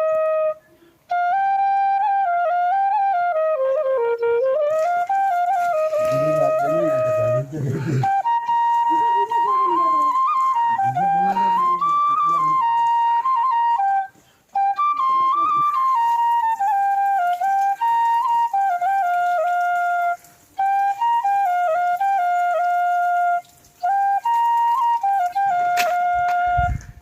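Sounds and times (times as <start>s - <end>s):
solo flute melody: 0.0s - 27.0s.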